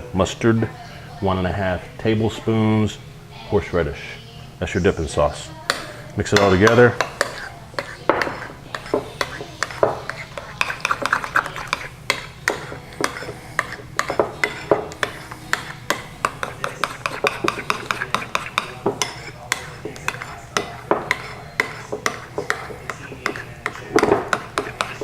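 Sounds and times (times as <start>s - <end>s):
utensil stirring sauce in bowl: 4.7s - 25.0s.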